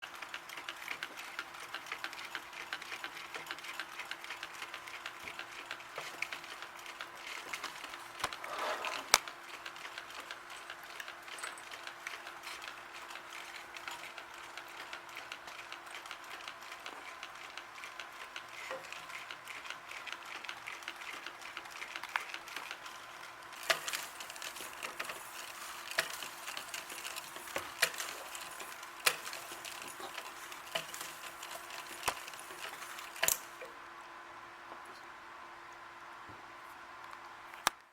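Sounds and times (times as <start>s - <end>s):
simulated wood crackling: 0.2s - 33.7s.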